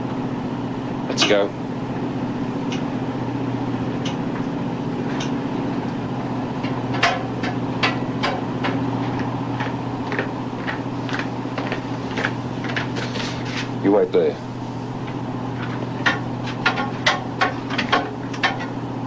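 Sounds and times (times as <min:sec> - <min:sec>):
boat engines droning: 0:00.0 - 0:19.0.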